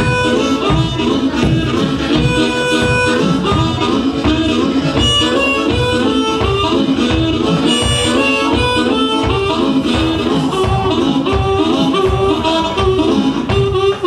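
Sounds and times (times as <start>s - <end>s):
amplified blues harmonica: 0.0s - 14.0s
band playing rhythm: 0.0s - 14.0s.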